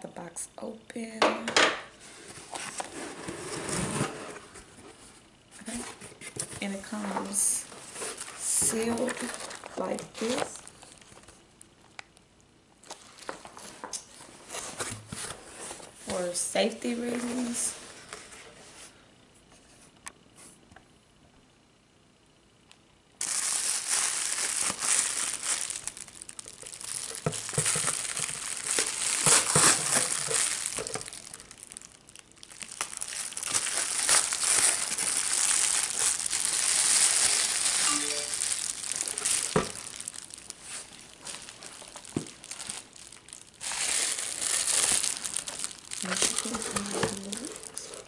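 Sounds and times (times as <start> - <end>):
foil and plastic packaging crinkling: 2.2 - 12.1, 12.8 - 18.5, 23.2 - 48.0.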